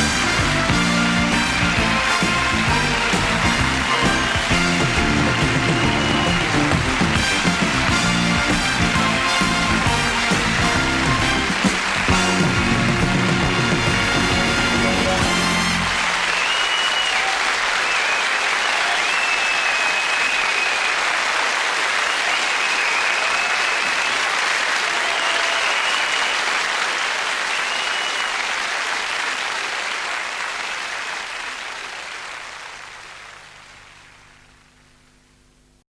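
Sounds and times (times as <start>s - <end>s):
audience applauding: 0.0s - 34.6s.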